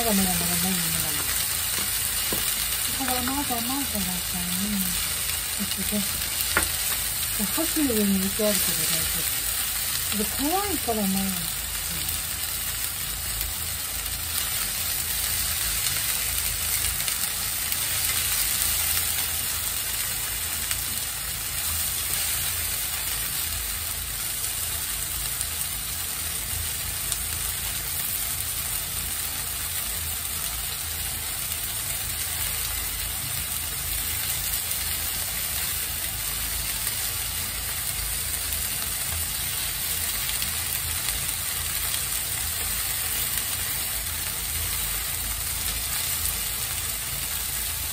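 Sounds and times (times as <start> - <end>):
shrimp sizzling in a frying pan: 0.0 - 47.9.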